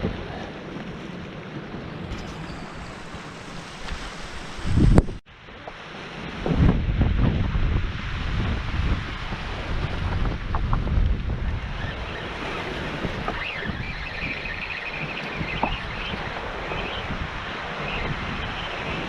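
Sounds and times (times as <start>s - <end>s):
gusty wind buffeting microphone: 0.0s - 19.0s
waves breaking on shore: 0.0s - 19.0s.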